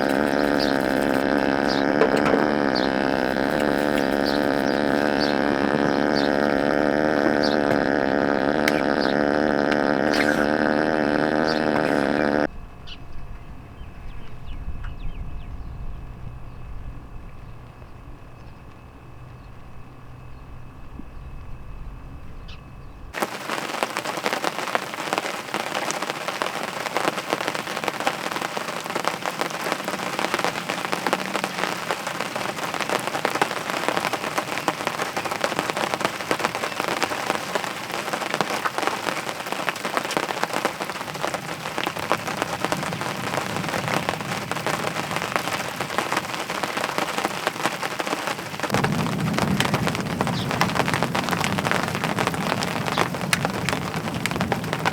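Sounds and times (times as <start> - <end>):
rain patter: 0.0 - 12.5, 23.1 - 54.9.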